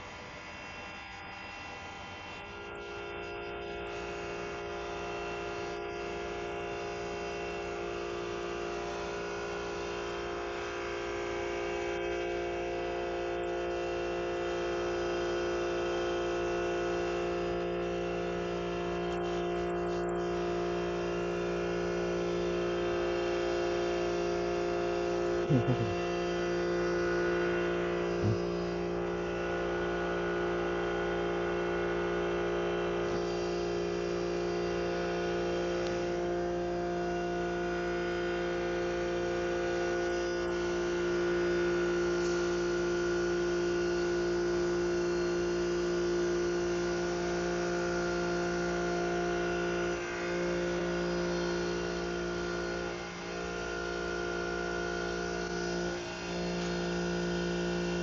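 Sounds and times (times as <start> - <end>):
lathe machine hum and whine: 0.0 - 58.0.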